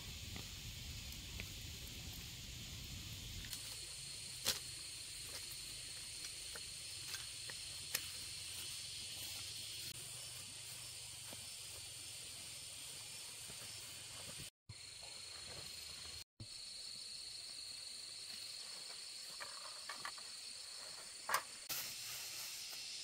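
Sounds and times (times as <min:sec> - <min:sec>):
high-pitched insect drone: 0:02.3 - 0:23.0.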